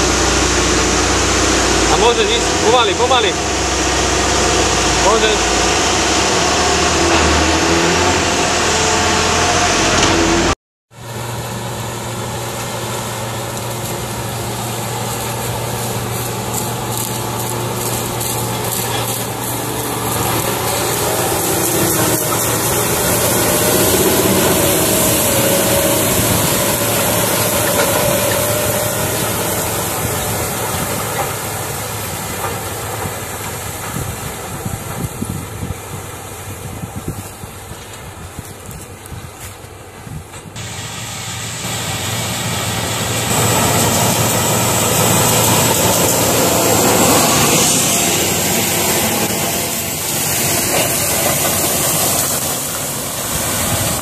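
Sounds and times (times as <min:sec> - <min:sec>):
tractor diesel engine droning: 0:00.0 - 0:39.1, 0:39.7 - 0:54.0.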